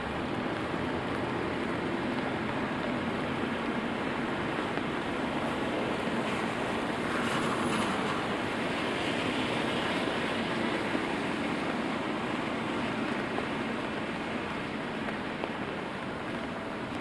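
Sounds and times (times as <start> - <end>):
steady rain falling: 0.0 - 17.0
tyres hissing on wet road: 0.0 - 17.0.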